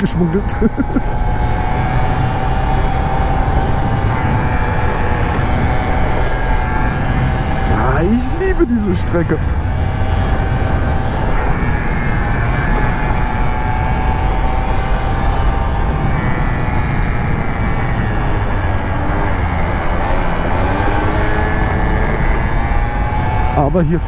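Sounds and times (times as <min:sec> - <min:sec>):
scooter engine running: 0:00.0 - 0:24.0
wind rumble on microphone: 0:00.0 - 0:24.0.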